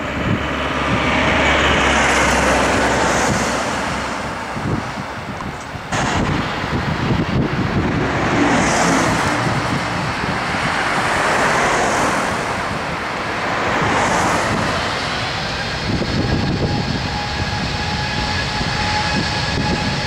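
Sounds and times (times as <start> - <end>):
jet engines running at low thrust: 0.0 - 20.0.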